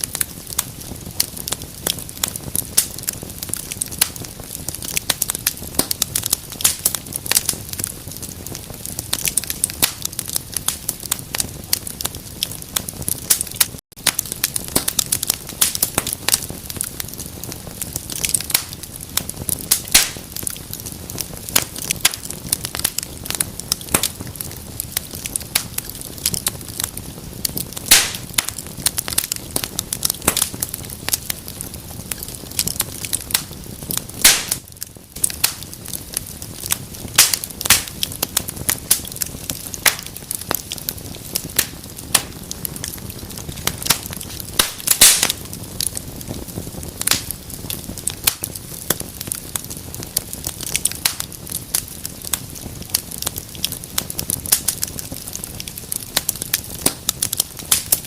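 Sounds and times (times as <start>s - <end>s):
fire pops and snaps: 0.0s - 58.0s
hiss of flames: 0.0s - 58.0s
wood fire crackling: 0.0s - 58.0s.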